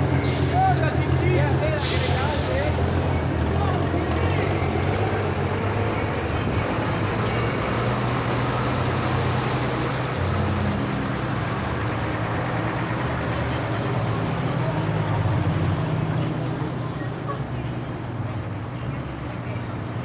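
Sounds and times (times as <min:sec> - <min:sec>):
truck diesel engines idling: 0:00.0 - 0:20.0.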